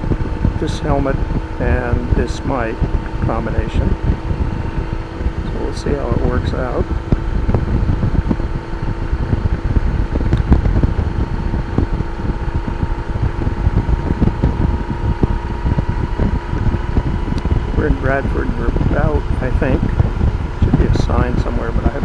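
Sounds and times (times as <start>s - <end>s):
motorcycle engine drone: 0.0s - 22.0s
wind buffeting microphone: 0.0s - 22.0s.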